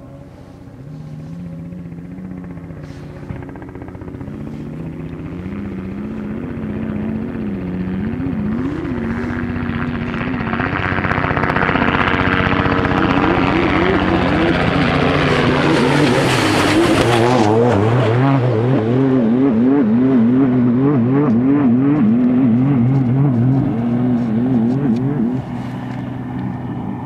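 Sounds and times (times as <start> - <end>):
racing truck engine passing by: 0.0 - 27.0.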